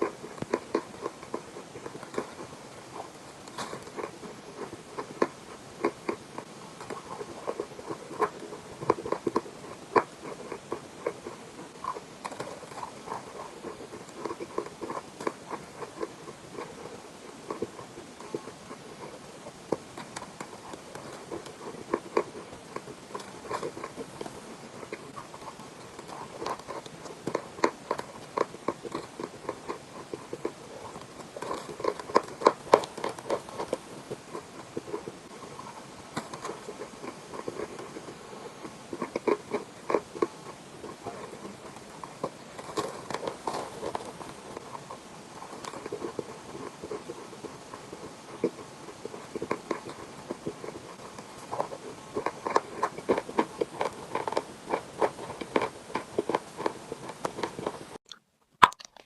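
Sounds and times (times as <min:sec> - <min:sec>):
chalk crunching in mouth: 0:00.0 - 0:59.0.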